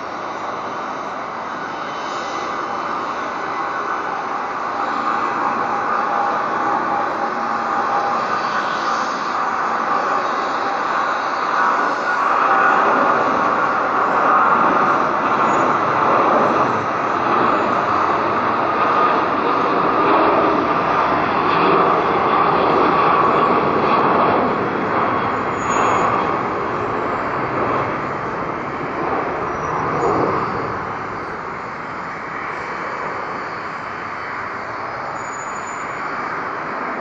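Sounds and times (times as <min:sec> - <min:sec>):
jet engines at takeoff thrust: 0:00.0 - 0:37.0.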